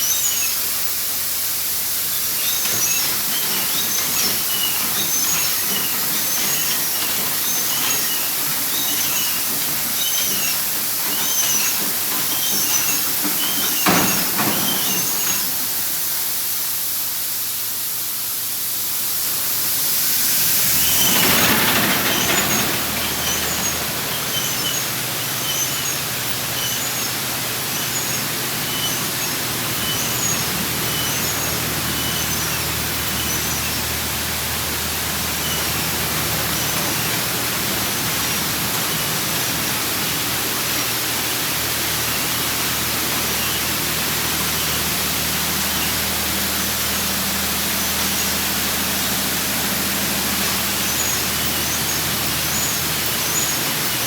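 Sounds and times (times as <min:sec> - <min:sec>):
water jets spraying: 0:00.0 - 0:54.0.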